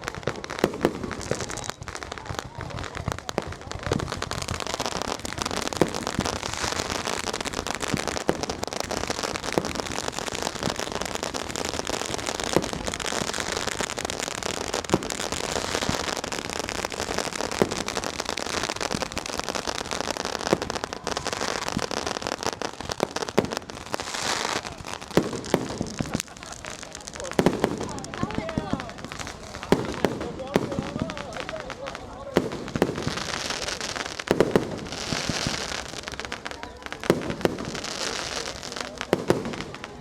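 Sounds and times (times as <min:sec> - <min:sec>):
firecrackers crackling: 0:00.0 - 0:40.0
firework bangs: 0:00.0 - 0:40.0.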